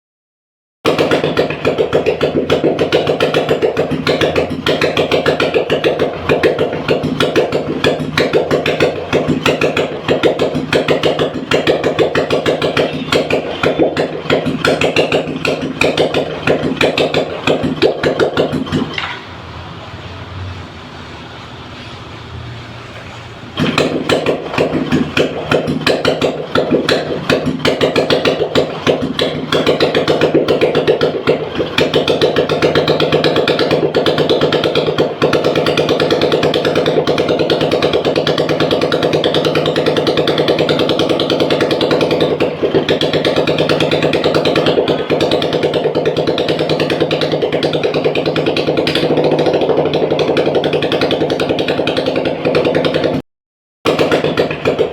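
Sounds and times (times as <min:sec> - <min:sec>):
motorcycle engine running: 0:00.8 - 0:53.2, 0:53.8 - 0:54.9.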